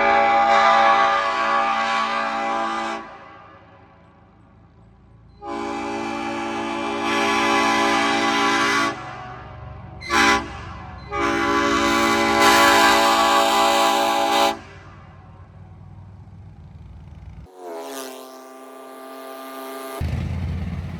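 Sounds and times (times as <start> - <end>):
train horn blasts: 0.0 - 4.3, 5.3 - 15.6, 17.5 - 20.0.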